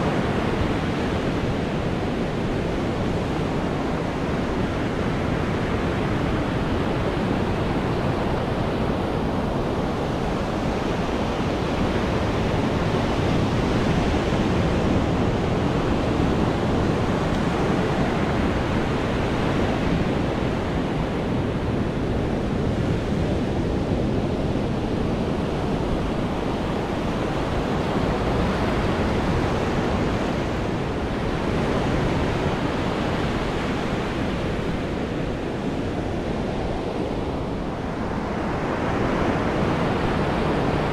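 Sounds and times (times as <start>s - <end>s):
ocean surf breaking on beach: 0.0s - 40.9s
wind on microphone: 0.0s - 40.9s.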